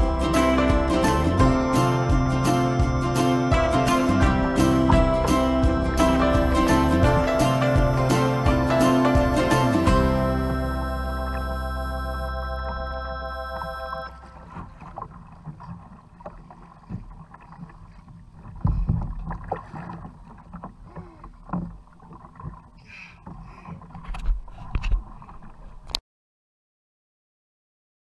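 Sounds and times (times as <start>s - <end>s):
water noise: 0.0s - 26.0s.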